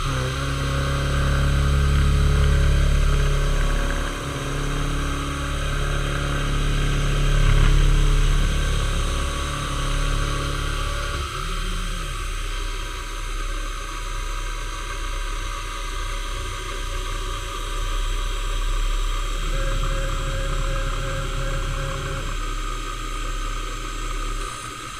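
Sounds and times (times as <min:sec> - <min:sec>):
high machine tone: 0:00.0 - 0:24.9
machine tool humming and hissing: 0:00.0 - 0:24.9.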